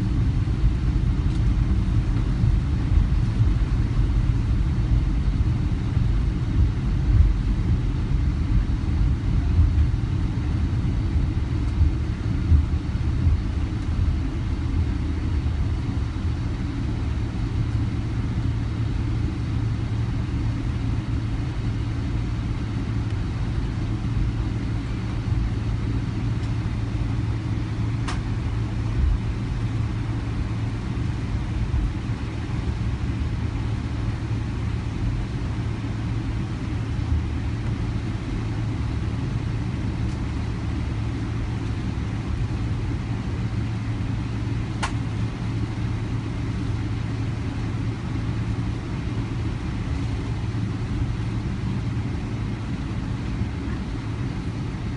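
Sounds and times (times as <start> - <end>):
airplane cabin engine drone: 0.0 - 54.9.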